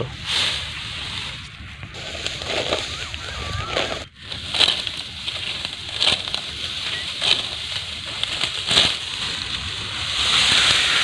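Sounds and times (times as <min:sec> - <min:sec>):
crackling cuts of dry stalks: 0:00.0 - 0:11.0
rustle of dry straw: 0:00.0 - 0:11.0.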